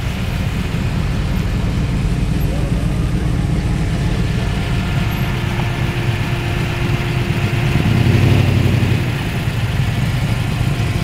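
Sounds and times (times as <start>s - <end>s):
car engine rumbling past: 0.0s - 11.0s.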